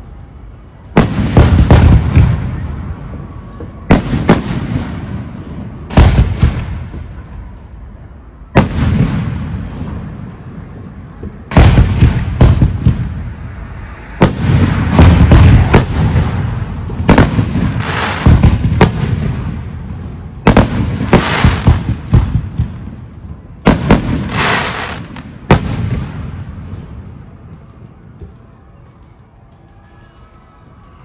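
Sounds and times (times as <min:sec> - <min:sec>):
fireworks bangs: 0:00.7 - 0:31.0.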